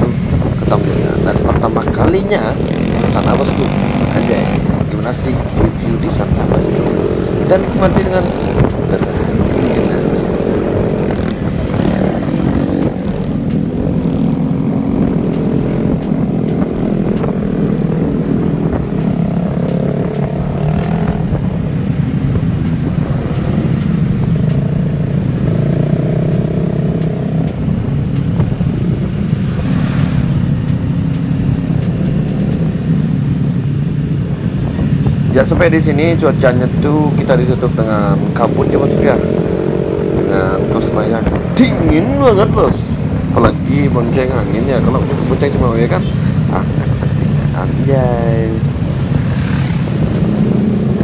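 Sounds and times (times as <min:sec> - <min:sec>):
scooter engines droning: 0:00.0 - 0:51.0.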